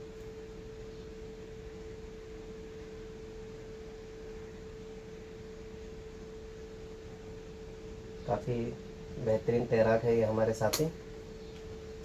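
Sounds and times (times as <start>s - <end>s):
steady pure tone: 0.0s - 12.0s.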